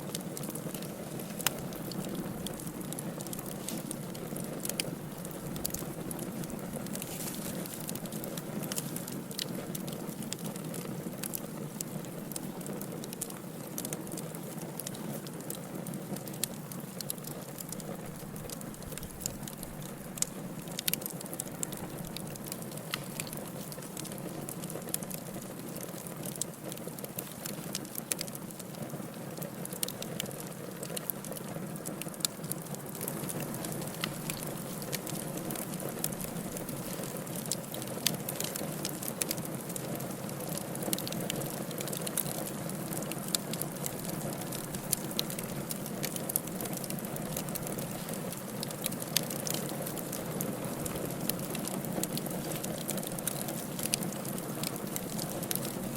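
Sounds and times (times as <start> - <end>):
fire burning: 0.0 - 55.9
firewood crackling and popping: 0.0 - 55.9.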